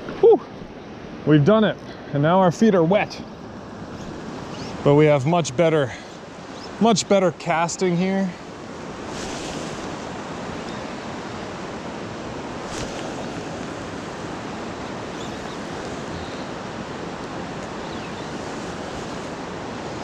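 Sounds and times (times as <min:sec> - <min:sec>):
river water rushing: 0:02.0 - 0:20.0.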